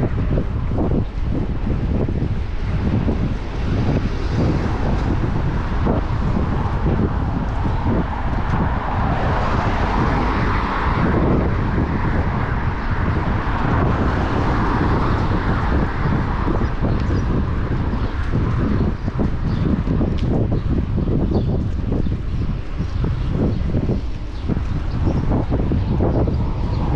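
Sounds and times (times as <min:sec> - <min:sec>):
passing vehicles: 0:00.0 - 0:26.9
wind rumbling on microphone: 0:00.0 - 0:26.9.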